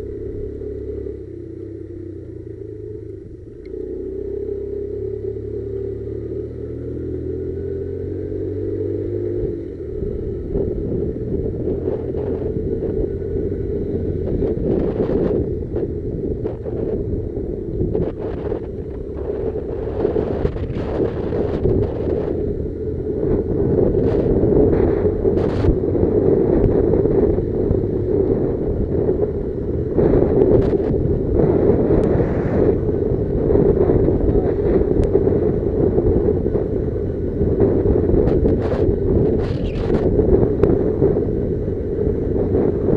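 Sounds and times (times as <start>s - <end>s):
motorcycle engine running: 0.0s - 42.9s
wind buffeting microphone: 6.0s - 42.9s.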